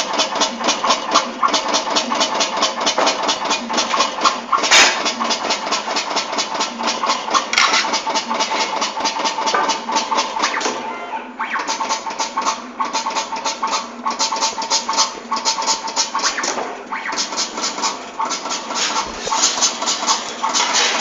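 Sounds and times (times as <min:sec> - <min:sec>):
machine rapid mechanical clatter: 0:00.0 - 0:10.8, 0:11.4 - 0:21.0
steady machine hum: 0:00.0 - 0:21.0.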